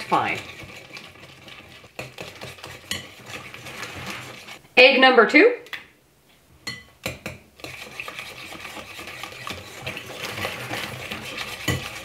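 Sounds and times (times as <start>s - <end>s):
whisk clinking glass bowl: 0.0s - 4.6s, 6.6s - 12.0s
whisk scraping in glass bowl: 0.0s - 4.6s, 6.7s - 12.0s.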